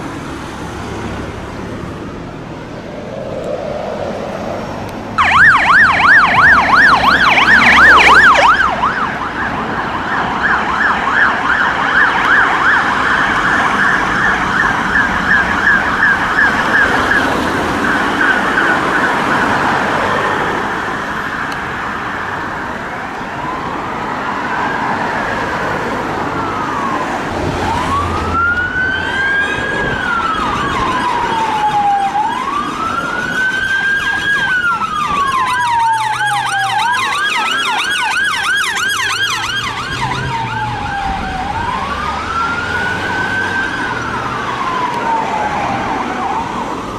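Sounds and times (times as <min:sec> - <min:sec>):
emergency vehicle sirens: 0:00.0 - 0:46.9.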